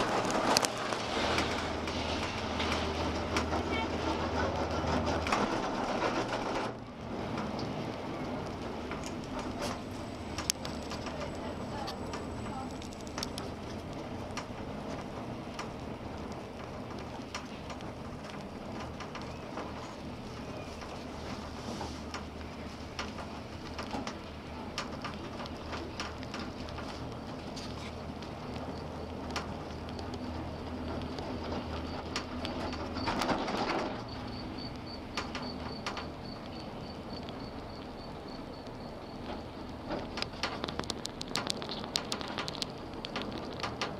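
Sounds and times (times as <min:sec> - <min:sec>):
gondola cabin hum and rumble: 0:00.0 - 0:43.9.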